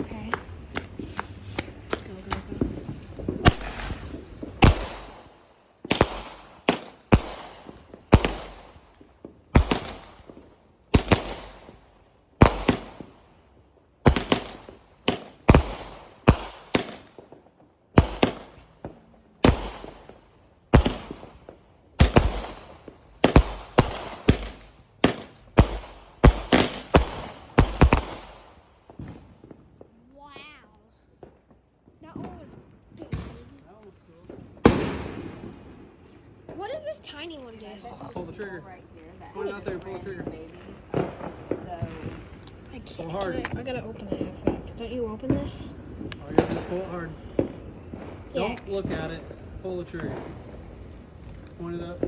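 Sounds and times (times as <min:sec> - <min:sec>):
firework bangs: 0:00.0 - 0:30.3, 0:31.2 - 0:52.0.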